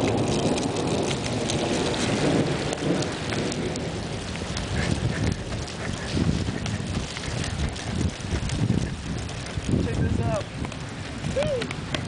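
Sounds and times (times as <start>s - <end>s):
low rumbling noise: 0.0s - 12.0s
steady rain falling: 0.0s - 12.0s.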